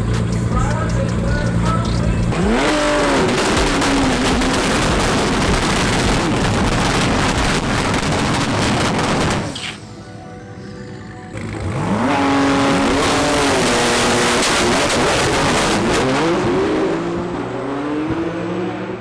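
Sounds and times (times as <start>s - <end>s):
car engine revving with crackling exhaust: 0.0s - 9.8s, 11.3s - 19.0s.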